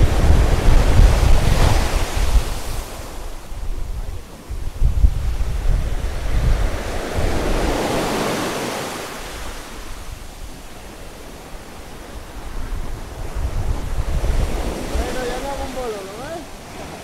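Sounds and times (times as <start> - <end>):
sea waves surging against rocks: 0.0 - 17.0
wind buffeting microphone: 0.0 - 17.0.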